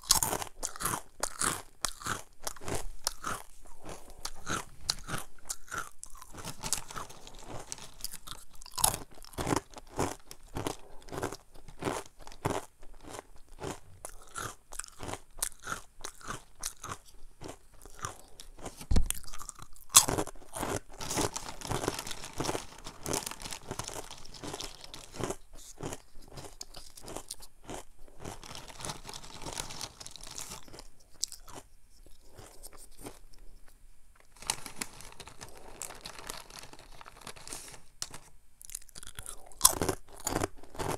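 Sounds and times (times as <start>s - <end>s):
chewing crunchy snack: 0.0s - 33.7s, 34.3s - 40.9s.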